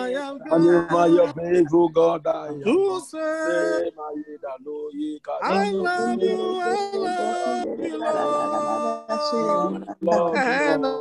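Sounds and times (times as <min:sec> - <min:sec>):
worship song singing: 0:00.0 - 0:11.0.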